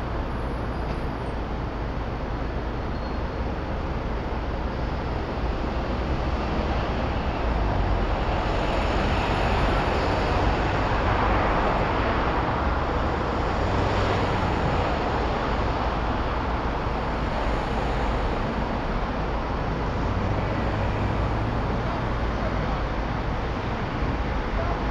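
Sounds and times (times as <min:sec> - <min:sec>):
cars passing: 0:03.9 - 0:24.9.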